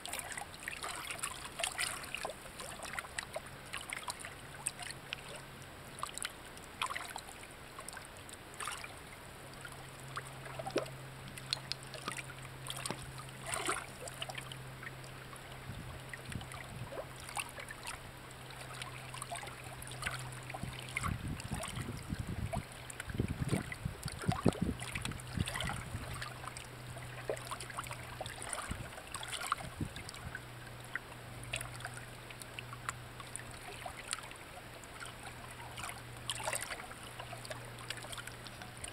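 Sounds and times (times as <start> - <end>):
steady low hum: 0.0 - 38.9
stream trickling over rocks: 0.0 - 38.9.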